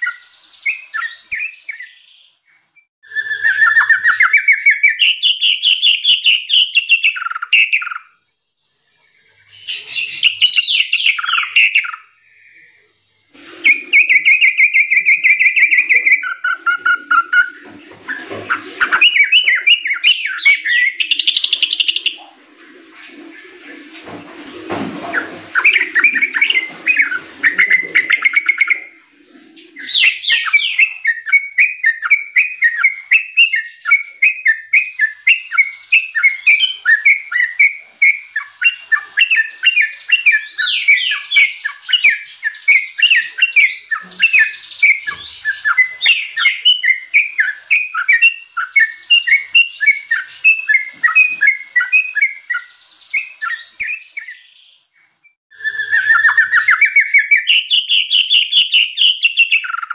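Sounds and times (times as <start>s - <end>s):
bird bubbly chattering song: 0.0s - 2.4s, 3.1s - 8.2s, 9.4s - 12.9s, 13.5s - 24.1s, 25.0s - 54.9s, 55.6s - 59.9s.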